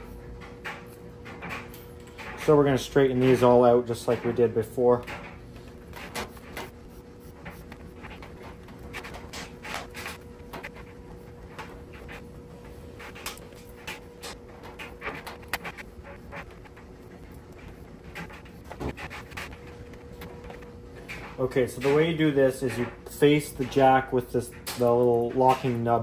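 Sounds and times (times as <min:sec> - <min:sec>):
clothes dryer humming: 0:00.0 - 0:26.0.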